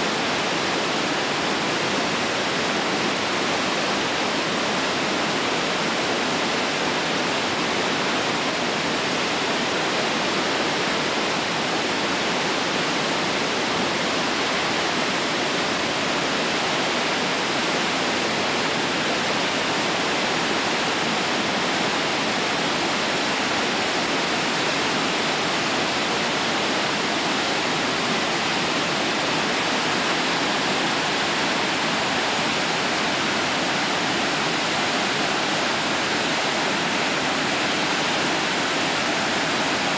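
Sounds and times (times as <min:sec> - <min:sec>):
rapids rushing: 0:00.0 - 0:39.9.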